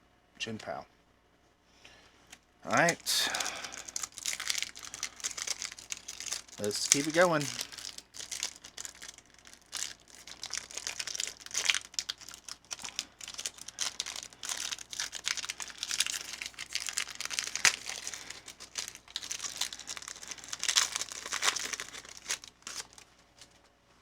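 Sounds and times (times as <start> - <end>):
foil wrapper crinkling: 2.7 - 23.7.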